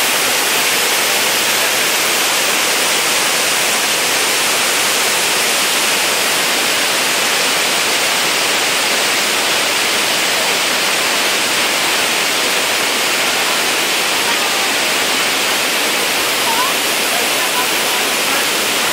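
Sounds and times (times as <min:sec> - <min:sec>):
waterfall rushing over boulders: 0:00.0 - 0:18.9.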